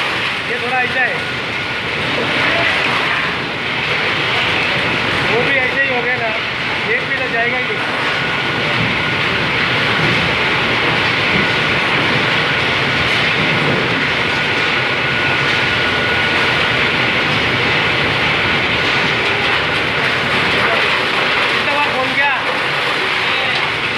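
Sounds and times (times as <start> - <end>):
machinery running with whine: 0.0 - 23.9.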